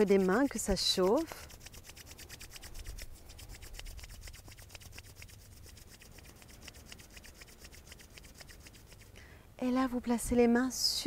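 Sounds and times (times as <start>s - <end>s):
hands rubbing together: 0.0s - 9.2s.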